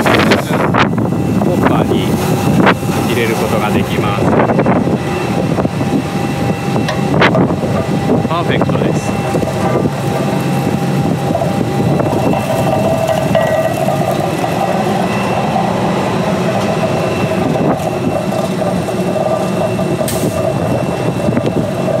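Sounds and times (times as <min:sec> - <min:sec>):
shot blasting machine drone: 0:00.0 - 0:22.0.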